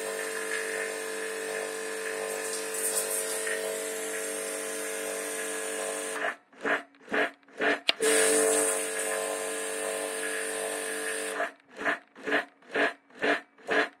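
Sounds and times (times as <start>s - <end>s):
pressure washer pulsing: 0.0s - 14.0s.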